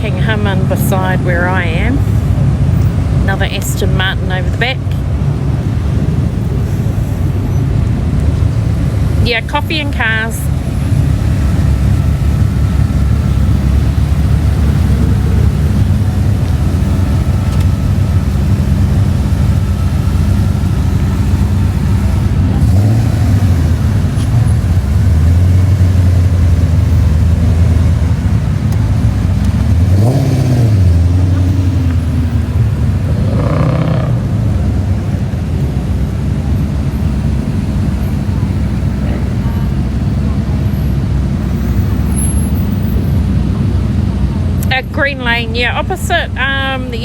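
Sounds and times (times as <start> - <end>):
car engines running at low revs: 0.0 - 47.0
engine revving: 0.0 - 47.0.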